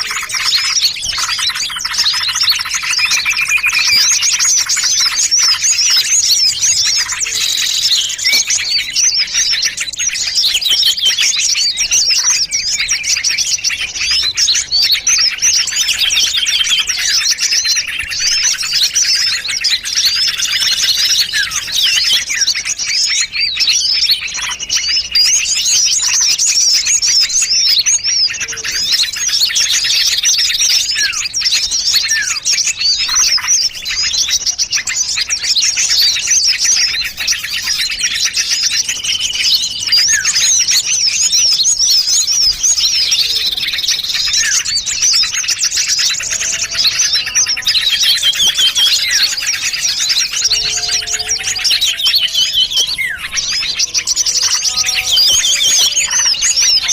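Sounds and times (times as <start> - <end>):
songbirds chirping and twittering: 0.0 - 56.9.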